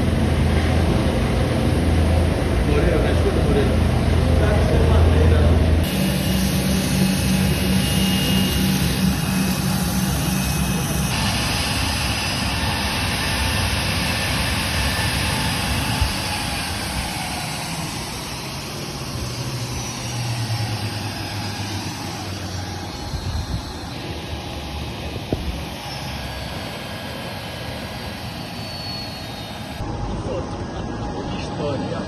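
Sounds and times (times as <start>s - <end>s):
airplane engines running: 0.0s - 32.0s.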